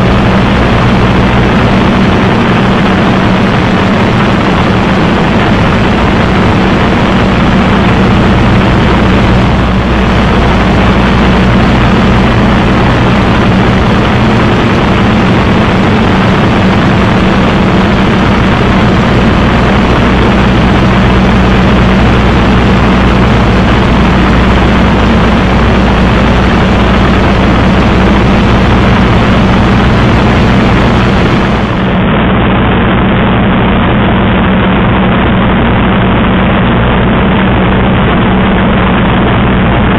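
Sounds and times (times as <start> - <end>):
aircraft piston engine drone: 0.0 - 39.9
airflow noise: 0.0 - 39.9.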